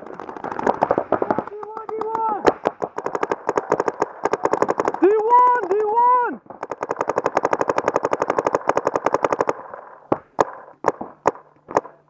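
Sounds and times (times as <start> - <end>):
paintball marker firing: 0.1 - 5.9, 6.5 - 12.0.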